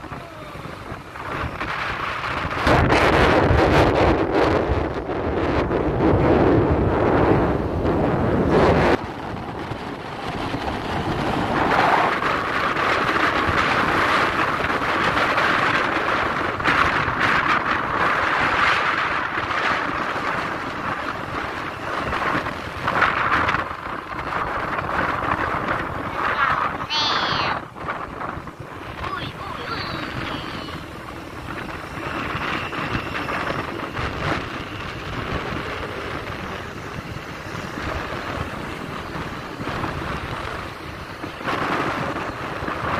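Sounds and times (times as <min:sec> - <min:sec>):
motorbike engine: 0:00.0 - 0:42.9
road noise: 0:00.0 - 0:42.9
wind rushing over microphone: 0:00.0 - 0:42.9.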